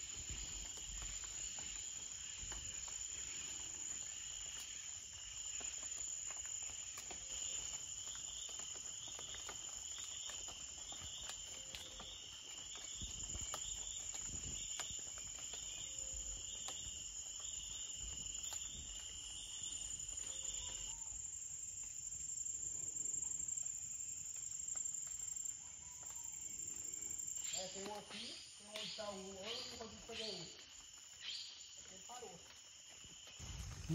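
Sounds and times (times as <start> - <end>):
insect pulsing chirp: 0.0 - 33.9.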